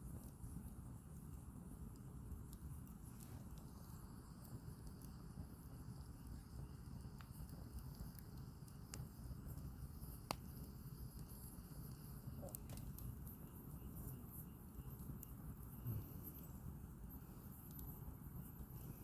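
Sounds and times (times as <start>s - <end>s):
campfire flames rumbling: 0.0s - 19.0s
firewood crackling and popping: 0.0s - 19.0s.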